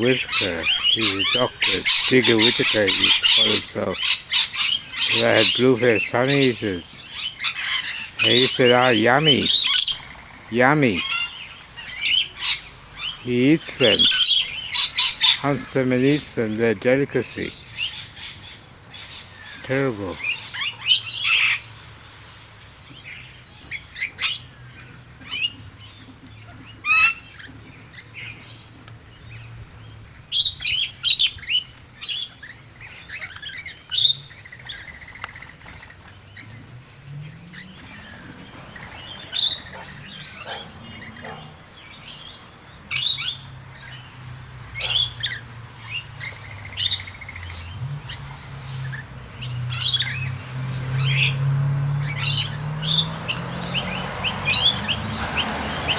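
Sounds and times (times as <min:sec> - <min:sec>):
flock of birds chirping and squawking: 0:00.0 - 0:55.9.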